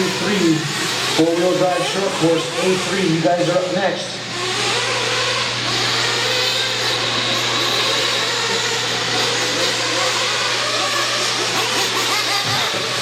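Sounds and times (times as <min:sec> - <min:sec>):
constant low hum: 0:00.0 - 0:13.0
race truck engines running: 0:00.0 - 0:13.0.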